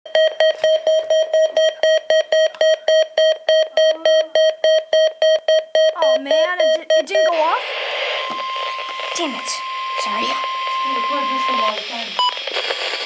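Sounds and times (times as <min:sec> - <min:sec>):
rapid alert beeps: 0:00.1 - 0:12.4.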